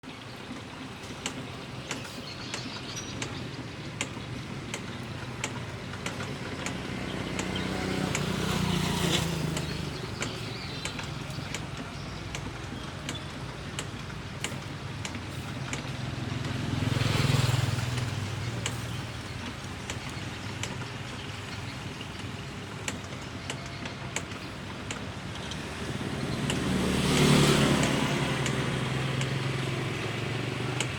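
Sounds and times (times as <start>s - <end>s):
vehicles passing: 0.0s - 30.9s
sharp clicks and taps: 0.4s - 16.6s, 17.4s - 30.9s.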